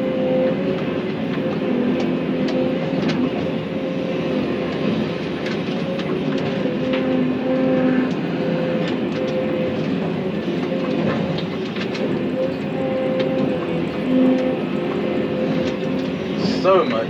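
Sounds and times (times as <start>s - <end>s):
excavator diesel engine: 0.0s - 17.0s
hydraulic whine: 0.0s - 17.0s.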